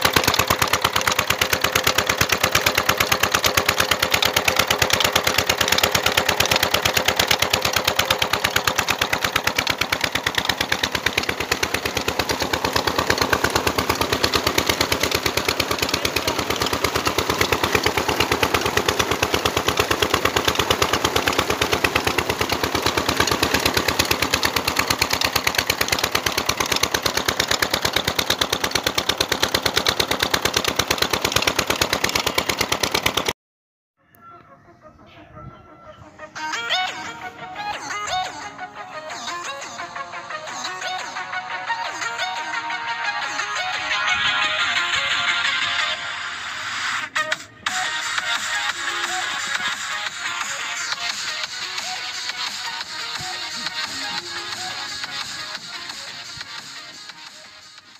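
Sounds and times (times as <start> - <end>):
diesel engine knocking: 0.0 - 33.4, 43.2 - 57.9.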